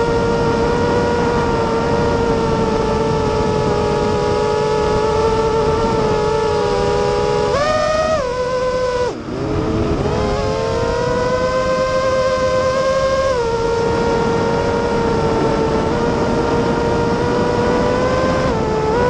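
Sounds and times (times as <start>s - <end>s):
model aircraft motors whining: 0.0s - 19.0s.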